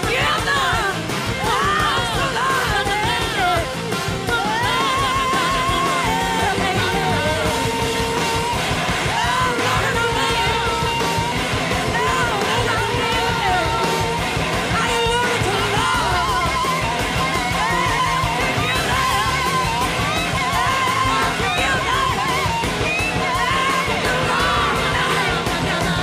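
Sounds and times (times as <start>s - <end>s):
electric slide guitar: 0.0s - 26.0s
live rock band playing: 0.0s - 26.0s.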